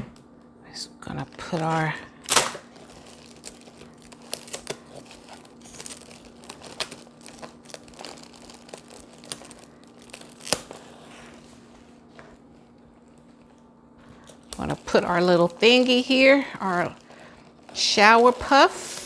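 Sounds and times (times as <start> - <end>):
wrapping material crackling: 1.1 - 19.0.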